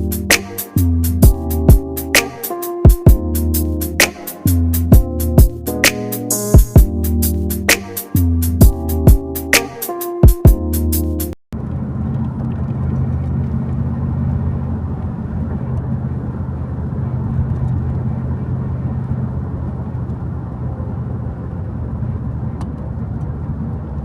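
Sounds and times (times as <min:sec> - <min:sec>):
car engine hum: 0:00.0 - 0:08.7, 0:11.6 - 0:24.0
road rumble: 0:00.0 - 0:09.4, 0:11.5 - 0:24.0.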